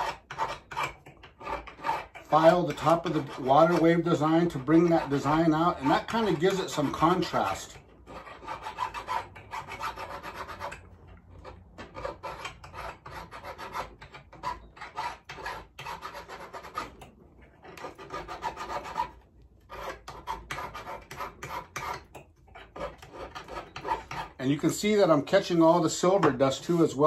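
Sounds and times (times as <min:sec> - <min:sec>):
file rasping on metal: 0:00.0 - 0:27.0.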